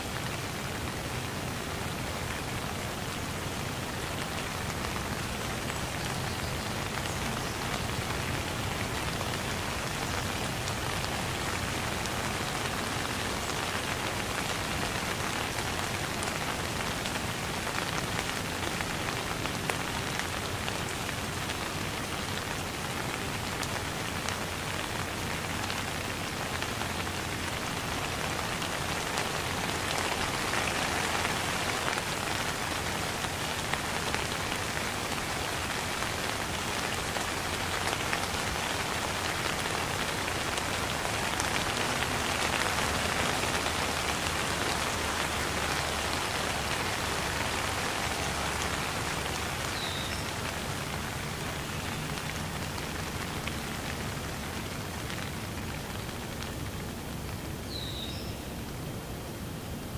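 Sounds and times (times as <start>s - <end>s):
sharp rain splashes: 0.0s - 59.9s
steady rain patter: 0.0s - 59.9s.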